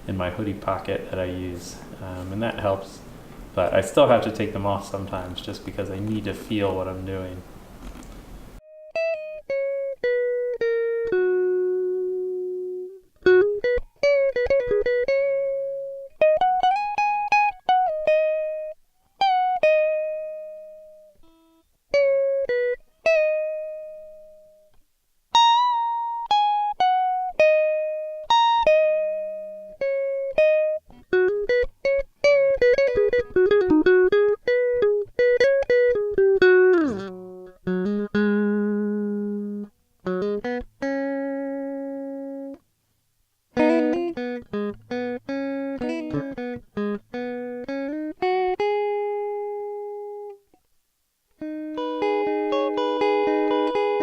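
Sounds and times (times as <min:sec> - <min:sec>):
solo guitar plucking notes: 0:00.0 - 0:07.6, 0:08.4 - 0:42.6, 0:43.5 - 0:50.7, 0:51.3 - 0:54.0.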